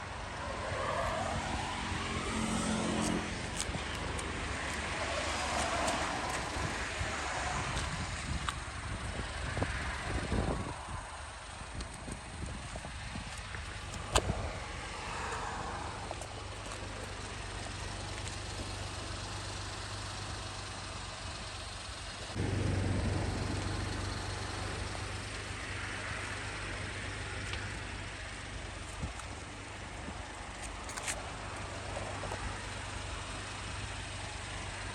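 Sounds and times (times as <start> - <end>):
vehicle engine humming: 0.0 - 34.9.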